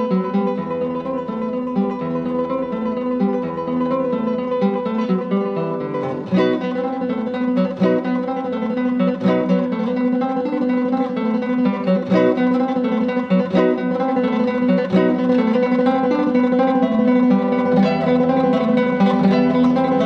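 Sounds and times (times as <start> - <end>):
acoustic guitar plucking: 0.0 - 20.0.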